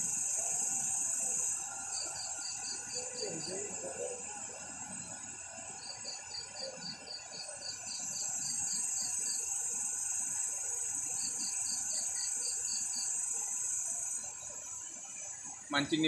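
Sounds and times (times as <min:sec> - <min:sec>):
insect chirping: 0:00.0 - 0:16.0
insect trill: 0:00.0 - 0:16.0.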